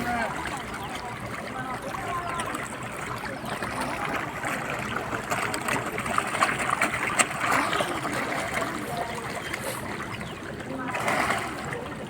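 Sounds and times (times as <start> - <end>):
river water flowing and splashing: 0.0 - 12.0.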